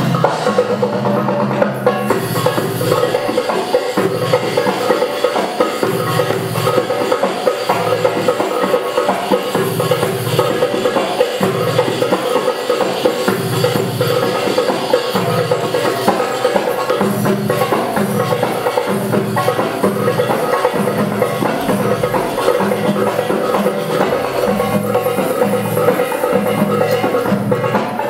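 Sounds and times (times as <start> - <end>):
fast dense drum strokes: 0.0 - 28.0.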